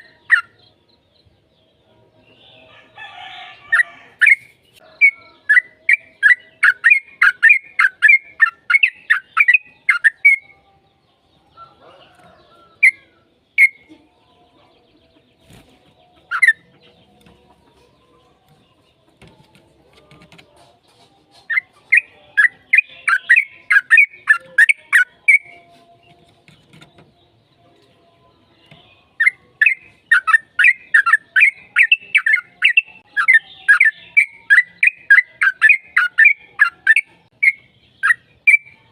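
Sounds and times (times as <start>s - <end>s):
bird chattering song: 0.0s - 1.3s, 3.7s - 10.6s, 11.2s - 14.0s, 14.9s - 38.9s.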